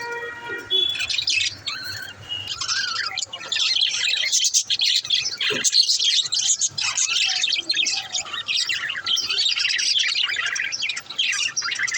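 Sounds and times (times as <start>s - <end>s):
budgerigars chirping and warbling: 0.0s - 11.9s.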